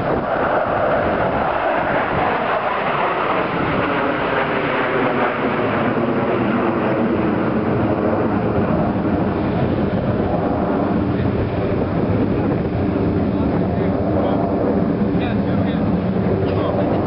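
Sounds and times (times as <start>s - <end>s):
jet engines roaring overhead: 0.0s - 17.0s.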